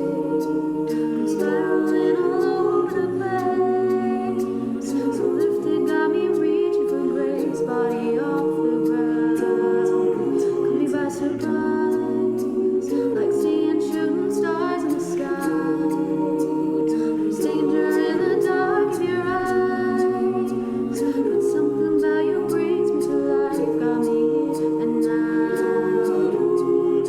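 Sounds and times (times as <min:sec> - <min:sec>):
a cappella group singing harmonies: 0:00.0 - 0:27.0.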